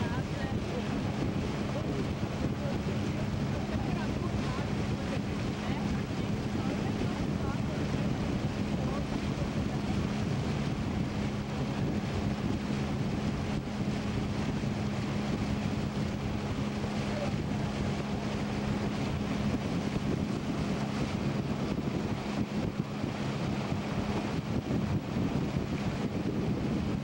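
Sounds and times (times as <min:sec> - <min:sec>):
outboard motor humming: 0:00.0 - 0:27.0
wind buffeting microphone: 0:00.0 - 0:27.0.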